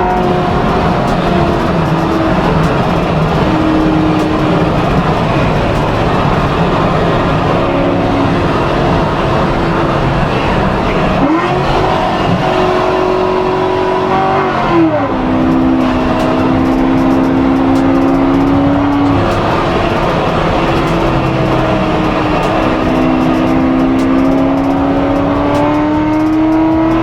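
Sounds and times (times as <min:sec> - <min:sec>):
car engine droning: 0:00.0 - 0:27.0.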